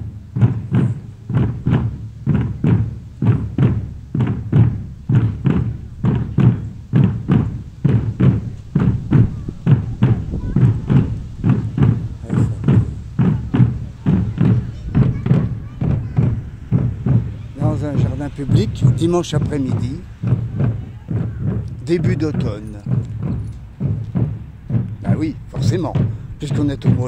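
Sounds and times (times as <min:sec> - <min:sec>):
bass drums booming: 0:00.0 - 0:27.0.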